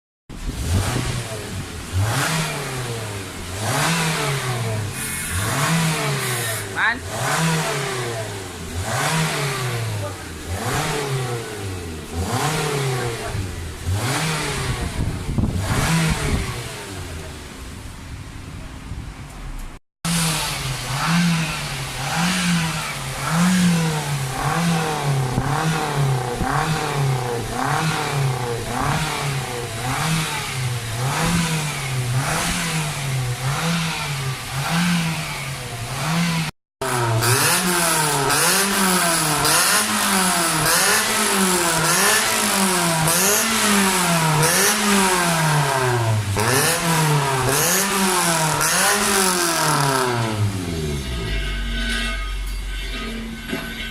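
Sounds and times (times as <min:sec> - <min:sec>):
car engine revving: 0:00.3 - 0:17.8, 0:20.0 - 0:53.9.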